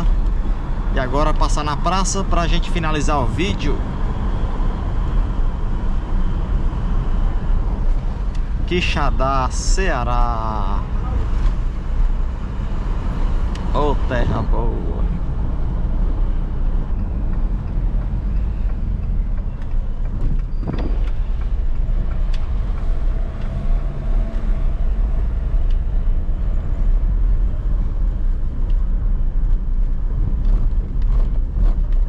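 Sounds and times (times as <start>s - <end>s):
engine and road rumble: 0.0s - 32.0s.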